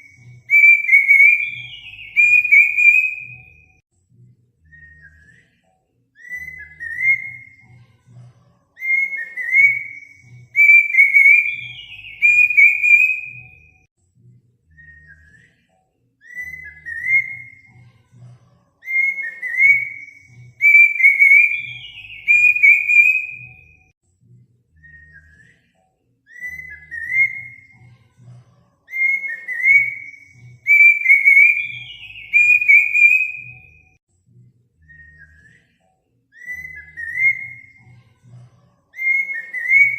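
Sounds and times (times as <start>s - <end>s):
bird whistling song: 0.0s - 3.8s, 4.6s - 7.9s, 8.8s - 13.9s, 14.7s - 17.9s, 18.8s - 23.9s, 24.7s - 28.0s, 28.8s - 34.0s, 34.8s - 38.0s, 38.9s - 39.9s.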